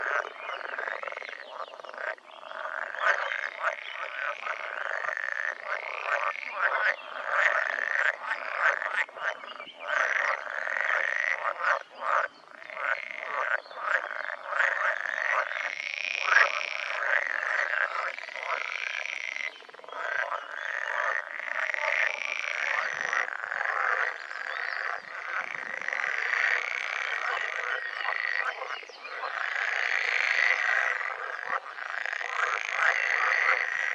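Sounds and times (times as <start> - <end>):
frogs croaking in chorus: 0.0 - 33.9.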